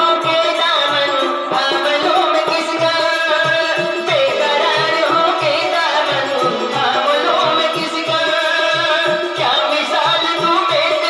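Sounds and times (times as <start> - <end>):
keyboard: 0.0 - 11.0
person singing: 0.0 - 11.0
steady drum beat: 0.0 - 11.0.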